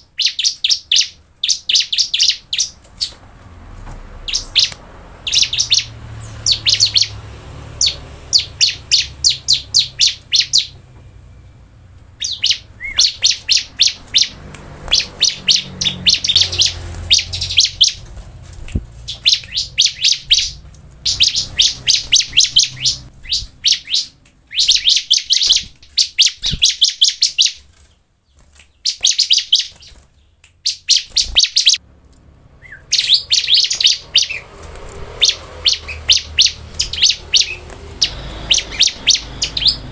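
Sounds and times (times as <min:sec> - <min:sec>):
bird singing rapid high chirps: 0:00.0 - 0:03.2, 0:04.1 - 0:31.8, 0:32.5 - 0:39.9.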